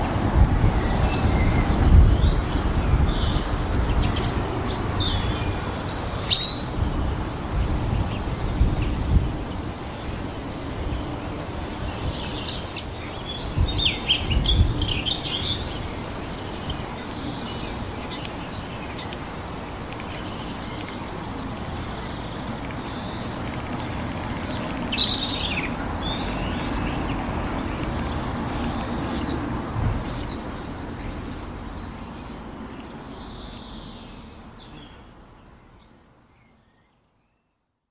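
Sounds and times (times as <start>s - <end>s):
birds calling and chirping: 0.0s - 37.0s
low background noise: 0.0s - 37.9s.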